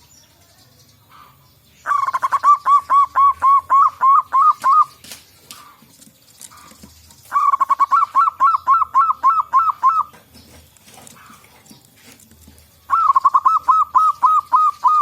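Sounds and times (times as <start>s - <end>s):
doves cooing: 1.1s - 15.0s.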